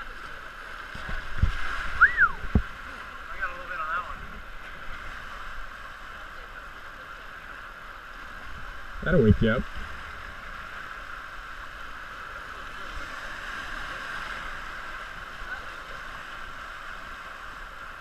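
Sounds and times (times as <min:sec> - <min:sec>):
river water rushing over rapids: 0:00.0 - 0:18.0.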